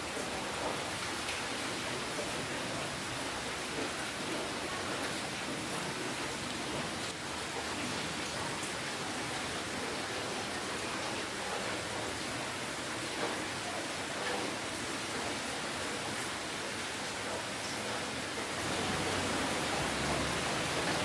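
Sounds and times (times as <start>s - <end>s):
steady rainfall: 0.0s - 21.0s
raindrop ticks: 0.1s - 16.3s, 18.4s - 21.0s.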